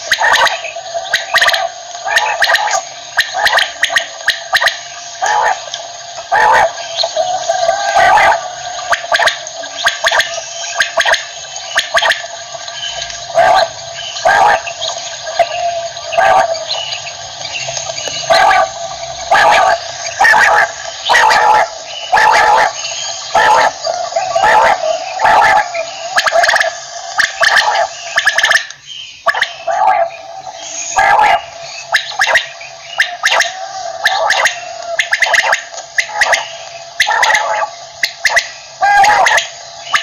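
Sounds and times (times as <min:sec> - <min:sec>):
quail calling: 0:00.0 - 0:40.0
steady background hiss: 0:00.0 - 0:40.0.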